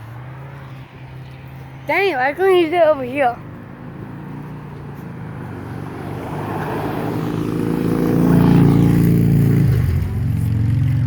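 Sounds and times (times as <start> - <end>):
truck driving past: 0.0 - 11.0.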